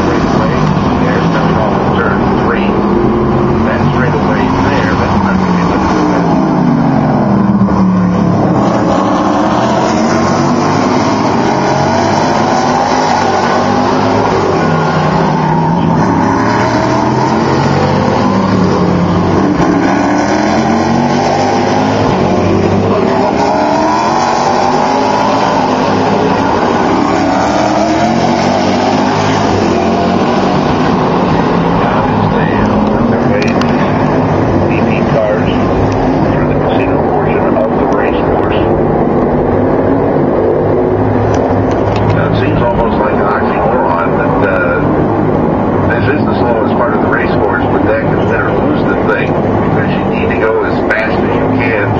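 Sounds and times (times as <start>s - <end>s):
race car engines braking and accelerating: 0.0s - 51.9s.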